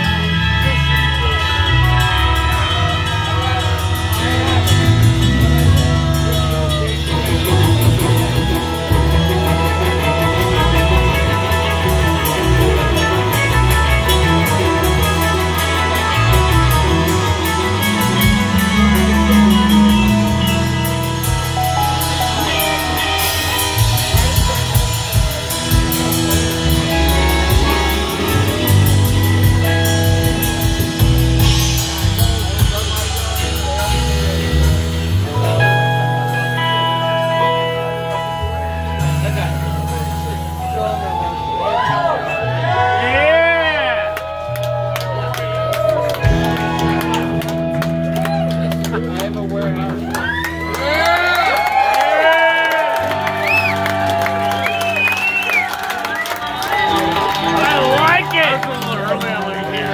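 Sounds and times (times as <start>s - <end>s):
electric guitars with bent notes: 0.0s - 59.9s
rock band playing live: 0.0s - 59.9s.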